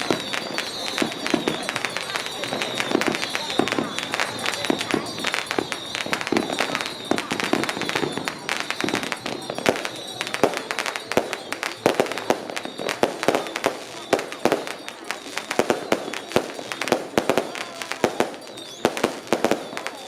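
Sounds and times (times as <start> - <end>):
firecrackers crackling: 0.0 - 20.0.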